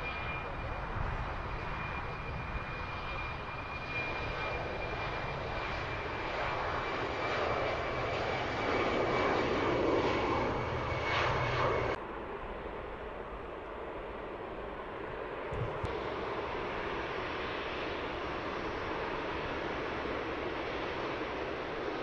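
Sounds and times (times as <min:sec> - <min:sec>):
jet engines whining: 0:00.0 - 0:22.0.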